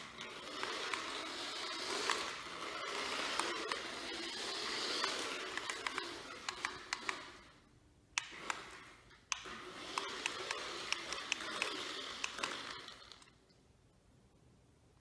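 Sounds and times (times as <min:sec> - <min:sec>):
sharp clicks: 0:00.0 - 0:07.6, 0:08.2 - 0:13.5
toy car electric motor whirring: 0:00.0 - 0:07.6, 0:08.2 - 0:13.4.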